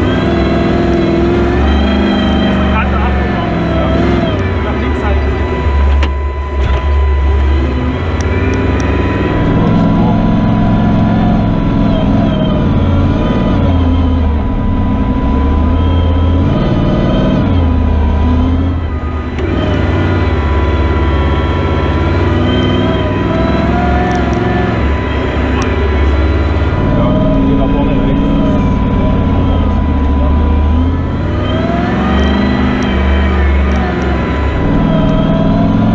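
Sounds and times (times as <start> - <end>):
faint steady whine: 0.0 - 35.9
vehicle engine working hard: 0.0 - 35.9.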